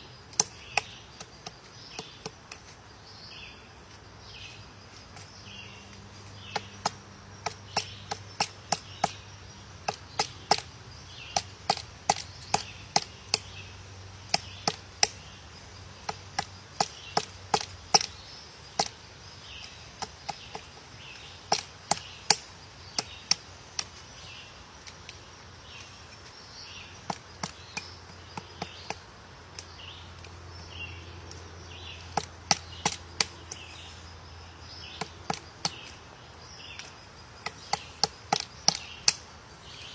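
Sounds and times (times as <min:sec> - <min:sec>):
woodpecker pecking at wood: 0:00.3 - 0:03.0, 0:03.9 - 0:15.4, 0:16.0 - 0:39.9.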